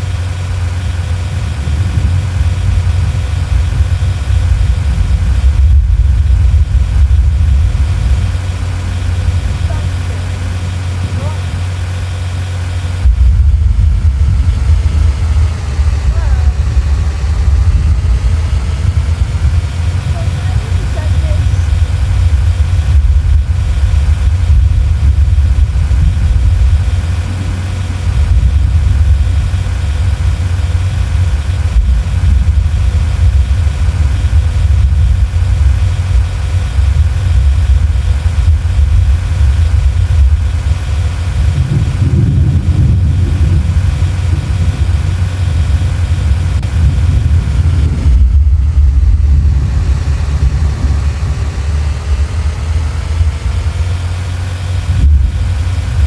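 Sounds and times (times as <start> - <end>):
car engine low rumble: 0.0 - 56.0.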